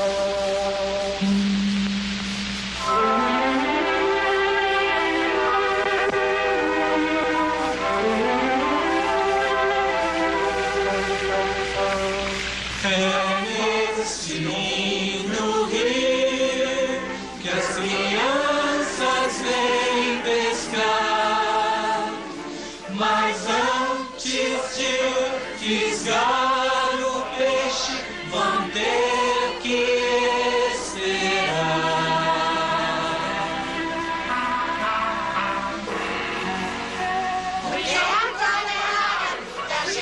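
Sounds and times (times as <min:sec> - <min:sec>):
choir singing with sliding pitch: 0:00.0 - 0:40.0.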